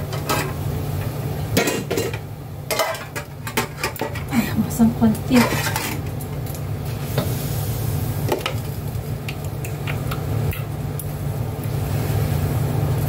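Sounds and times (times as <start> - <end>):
range hood fan humming: 0.0 - 13.0.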